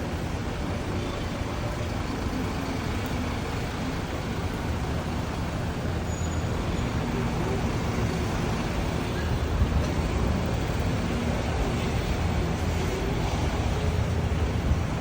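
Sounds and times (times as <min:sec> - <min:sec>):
low rumble of heavy machinery: 0:00.0 - 0:15.0.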